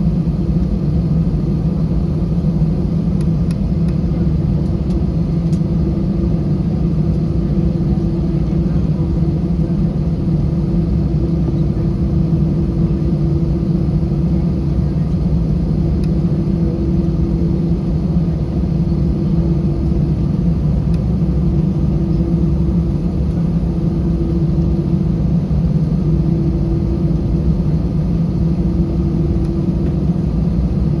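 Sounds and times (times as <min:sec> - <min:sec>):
aircraft cabin low rumble: 0:00.0 - 0:31.0
steady hum: 0:00.0 - 0:31.0.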